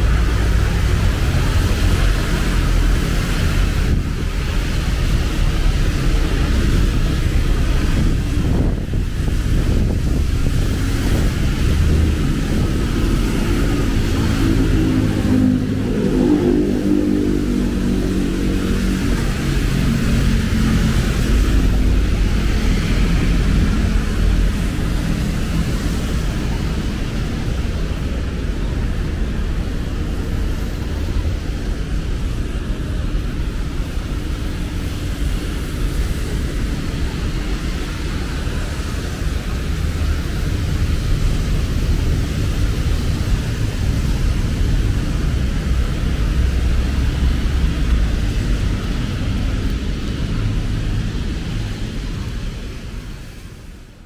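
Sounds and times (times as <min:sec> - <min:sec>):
passing vehicle engine hum: 0:00.0 - 0:53.8
traffic on wet road: 0:00.0 - 0:54.0.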